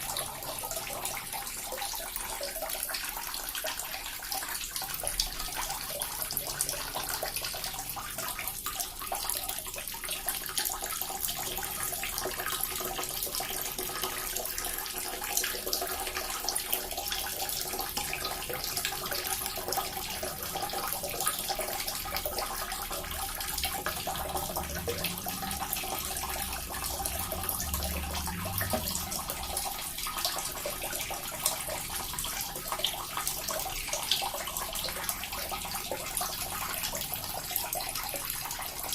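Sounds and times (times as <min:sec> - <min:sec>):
water fountain splashing: 0:00.0 - 0:38.9.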